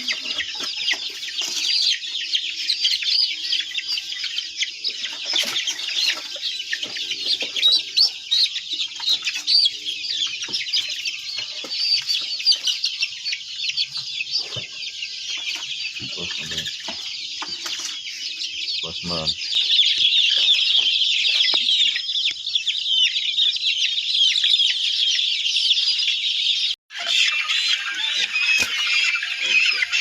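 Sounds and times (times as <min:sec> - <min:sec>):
chickens chirping and clucking: 0:00.0 - 0:30.0.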